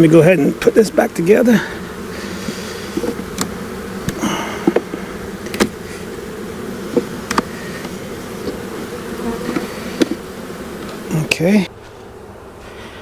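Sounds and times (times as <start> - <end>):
wooden hive frames knocking: 0.0 - 12.3
honeybees buzzing: 0.0 - 13.0.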